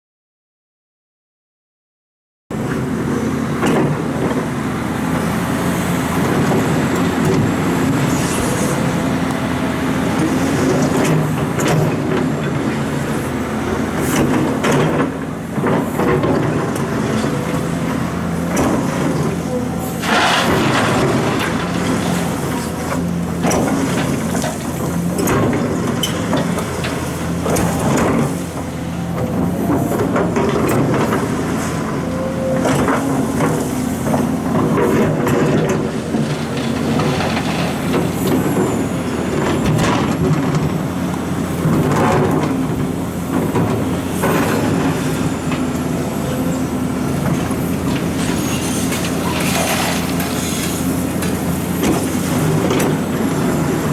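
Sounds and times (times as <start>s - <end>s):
excavator diesel engine running: 2.5s - 53.9s.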